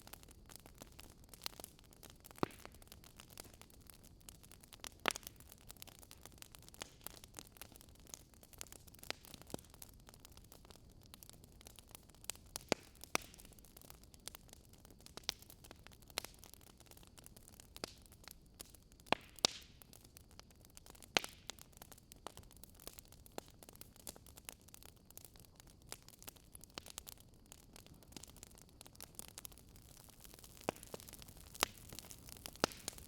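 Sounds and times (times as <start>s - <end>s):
soft steady hiss: 0.0s - 33.0s
wood fire crackling: 0.0s - 33.0s.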